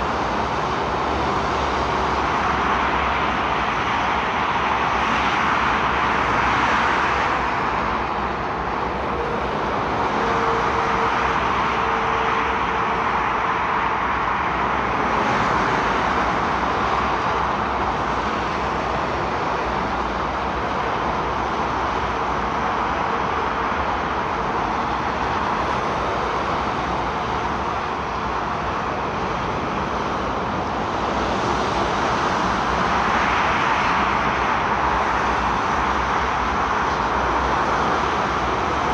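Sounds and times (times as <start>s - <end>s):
motorway traffic rushing: 0.0s - 38.9s.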